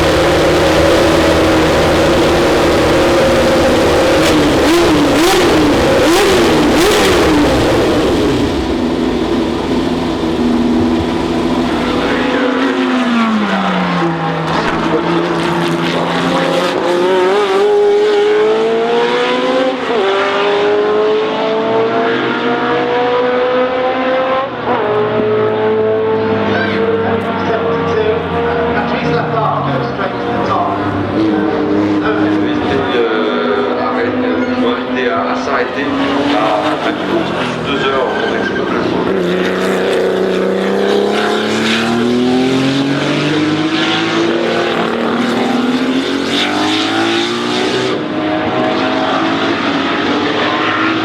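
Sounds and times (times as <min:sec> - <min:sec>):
race car engines revving: 0:00.0 - 0:51.0.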